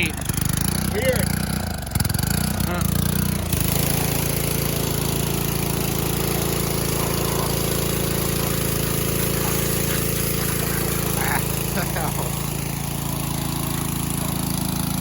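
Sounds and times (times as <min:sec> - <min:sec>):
small gasoline engine running: 0:00.0 - 0:15.0.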